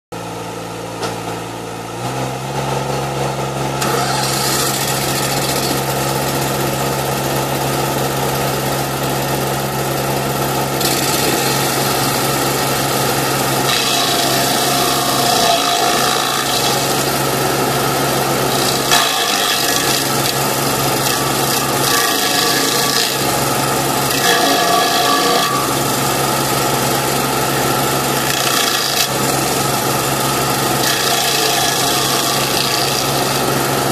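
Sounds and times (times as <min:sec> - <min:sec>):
loader engine running: 0:00.2 - 0:33.9
stump grinder grinding wood: 0:01.8 - 0:33.9.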